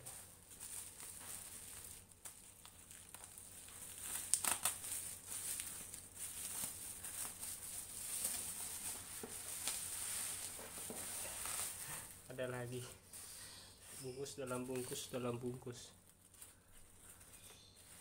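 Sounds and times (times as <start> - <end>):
bubble wrap and tape crinkling: 0.0 - 18.0.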